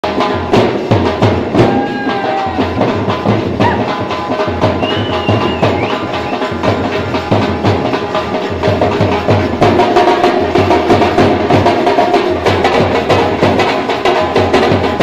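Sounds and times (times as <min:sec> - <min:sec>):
dhol drums playing dance rhythm: 0:00.0 - 0:15.0.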